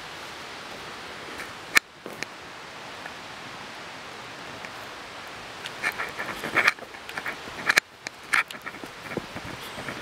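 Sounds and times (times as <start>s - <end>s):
faint ambient hiss: 0.0s - 10.0s.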